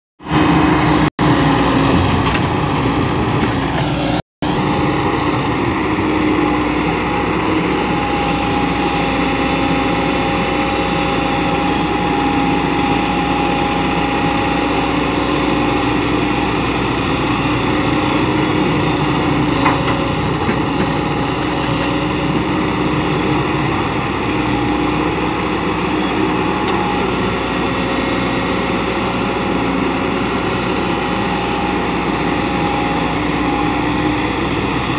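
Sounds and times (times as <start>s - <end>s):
excavator diesel engine running: 0.2s - 34.9s
steady whine: 0.2s - 34.9s.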